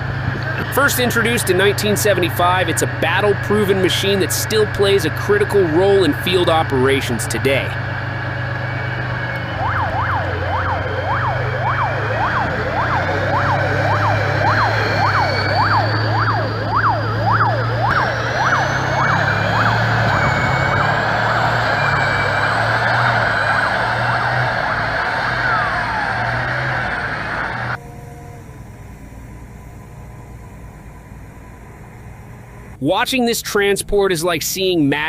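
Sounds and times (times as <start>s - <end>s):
vehicle siren yelping: 0.0s - 30.4s
heavy engine hum: 0.0s - 35.0s.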